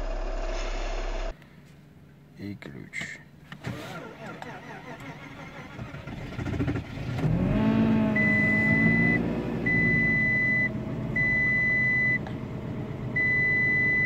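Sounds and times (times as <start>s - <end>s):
car engine starting and idling: 0.0s - 2.3s, 3.0s - 14.0s.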